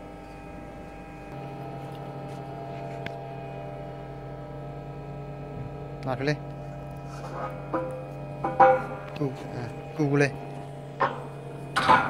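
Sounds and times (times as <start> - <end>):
hydraulic press humming: 0.0 - 12.0.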